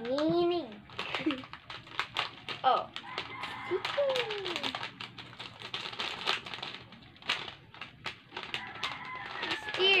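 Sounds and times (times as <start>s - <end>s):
foam beads pattering into bowl: 0.0s - 10.0s.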